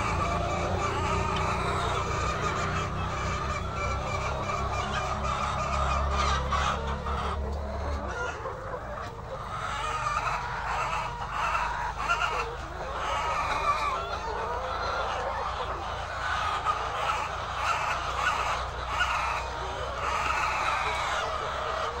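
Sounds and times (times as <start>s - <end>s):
hens clucking and calling: 0.0s - 22.0s.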